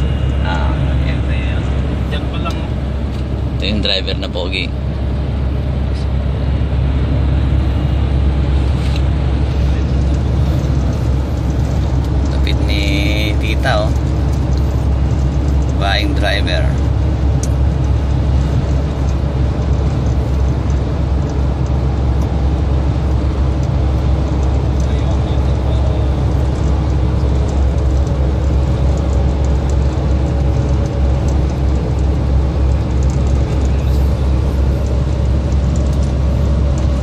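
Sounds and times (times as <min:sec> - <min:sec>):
faint steady whine: 0:00.0 - 0:37.0.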